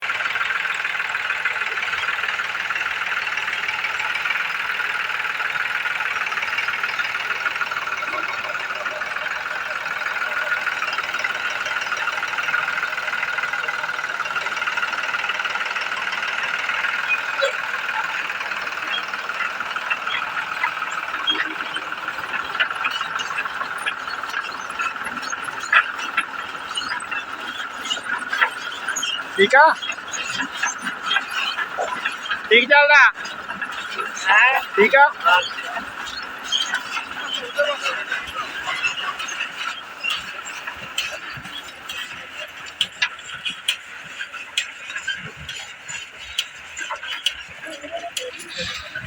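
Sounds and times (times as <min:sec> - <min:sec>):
clanks and rattles: 0:00.0 - 0:49.0
tractor running: 0:00.0 - 0:49.0.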